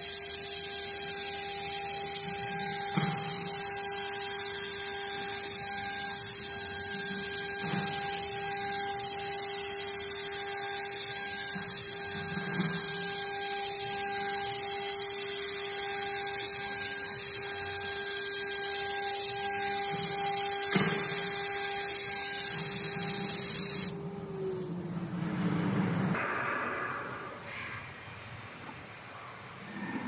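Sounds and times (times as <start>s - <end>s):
router spindle whining: 0.0s - 26.2s.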